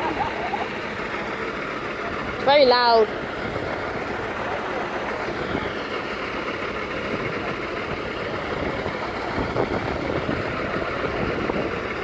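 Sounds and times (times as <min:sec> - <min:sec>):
fire engine idling: 0:00.0 - 0:12.0.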